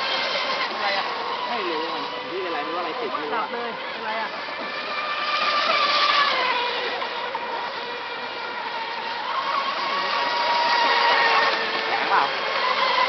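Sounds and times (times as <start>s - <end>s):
model boat motors whining: 0.0s - 13.0s.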